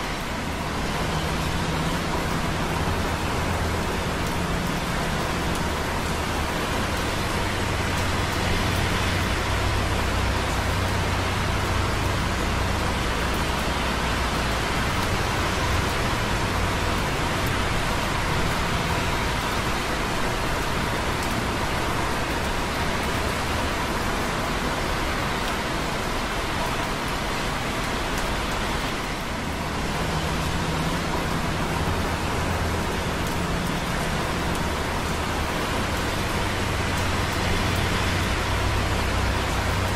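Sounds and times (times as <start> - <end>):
distant traffic on wet roads: 0.0 - 39.9
light rain dripping on concrete: 0.0 - 39.9.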